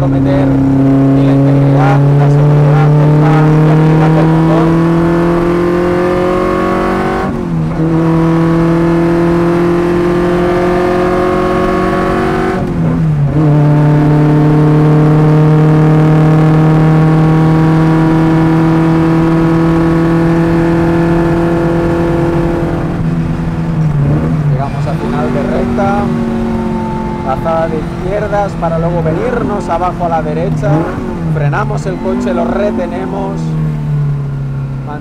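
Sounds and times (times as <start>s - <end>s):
car engine pulling hard: 0.0s - 35.0s
gear changes: 0.0s - 35.0s.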